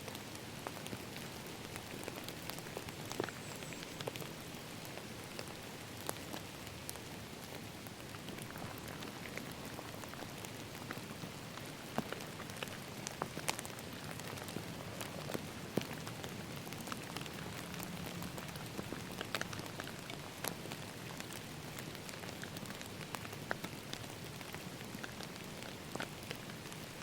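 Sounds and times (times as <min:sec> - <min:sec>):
steady rain hiss: 0:00.0 - 0:27.0
raindrops ticking: 0:00.1 - 0:27.0.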